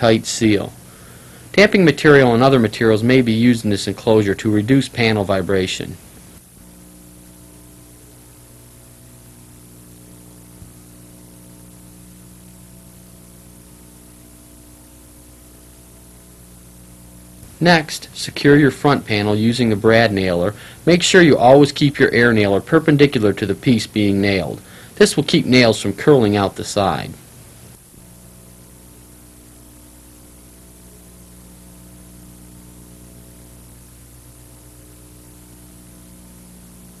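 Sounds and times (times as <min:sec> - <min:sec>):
constant hiss: 0:00.0 - 0:37.0
electrical hum: 0:00.0 - 0:37.0.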